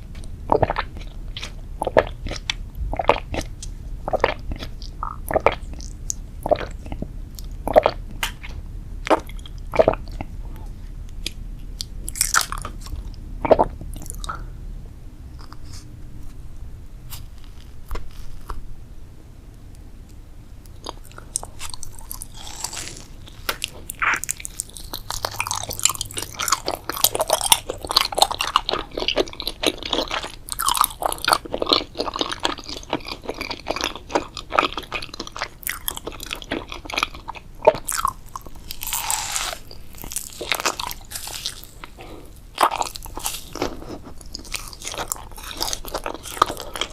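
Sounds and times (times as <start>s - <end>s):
person chewing crunchy food: 0.0s - 14.6s, 17.1s - 18.6s, 20.6s - 46.9s.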